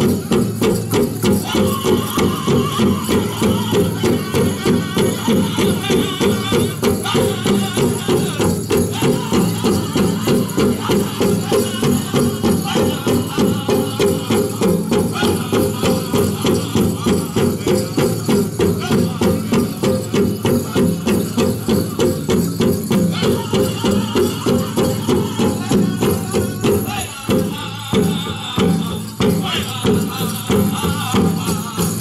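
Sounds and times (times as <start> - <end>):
big drum beat: 0.0 - 32.0
leg bells jingling: 0.0 - 32.0
group singing: 1.3 - 21.8, 23.1 - 32.0.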